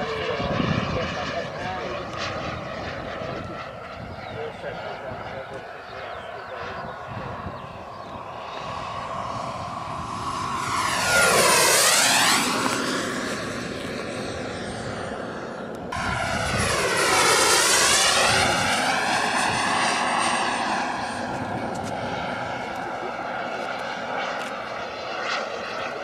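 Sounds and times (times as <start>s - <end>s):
model jet turbine whine: 0.0s - 26.0s.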